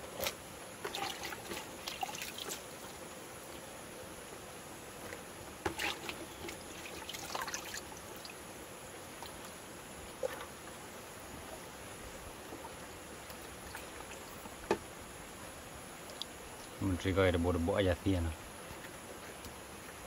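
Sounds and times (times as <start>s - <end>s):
water simmering with bubbling hiss: 0.0s - 20.0s.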